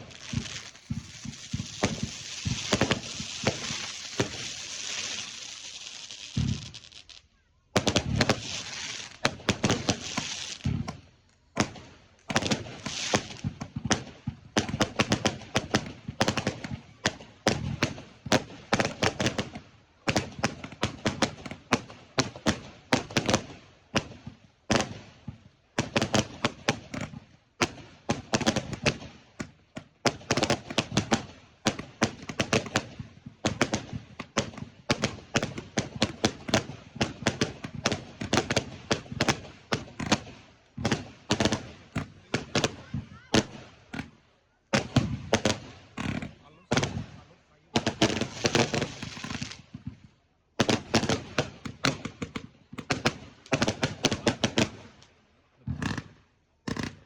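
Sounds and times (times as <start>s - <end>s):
fireworks bangs: 0.0s - 11.0s, 11.6s - 23.5s, 30.0s - 55.0s, 55.6s - 57.0s.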